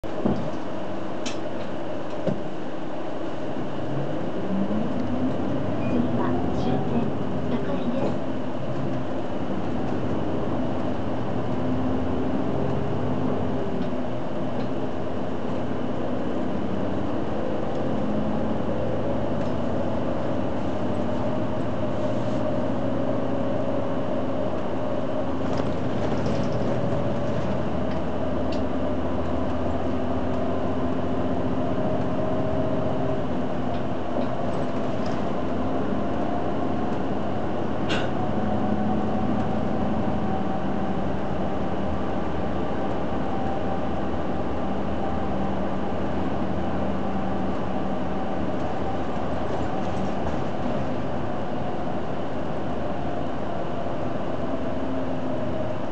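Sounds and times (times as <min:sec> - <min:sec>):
bus drivetrain whine: 0:00.0 - 0:55.9
bus running noise: 0:00.0 - 0:55.9.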